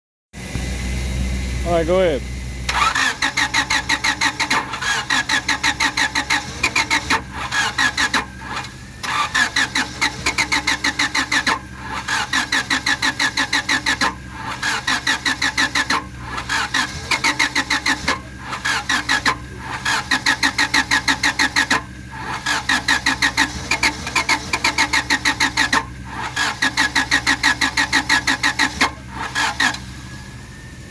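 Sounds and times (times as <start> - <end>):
starter motor cranking engine: 1.6 - 30.9.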